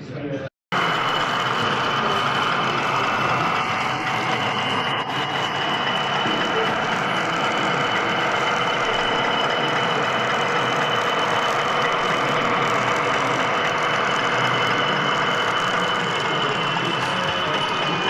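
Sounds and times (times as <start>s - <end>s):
model train running with whine: 0.8s - 18.0s.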